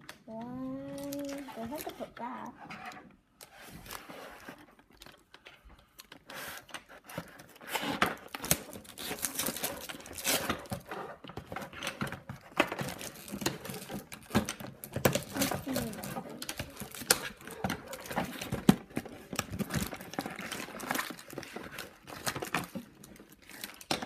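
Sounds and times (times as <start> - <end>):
cardboard and plastic rustling: 0.0 - 24.0.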